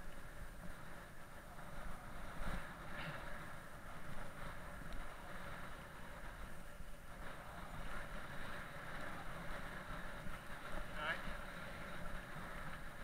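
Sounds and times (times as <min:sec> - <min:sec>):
bike tyres rolling on tarmac: 0:00.0 - 0:13.0
wind rushing on microphone: 0:00.0 - 0:13.0.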